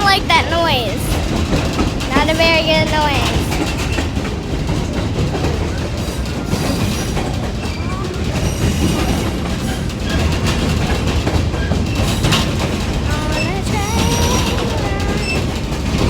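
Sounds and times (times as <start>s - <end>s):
train cars rattling and clicking: 0.0s - 16.0s
train wheels rumbling on rails: 0.0s - 16.0s.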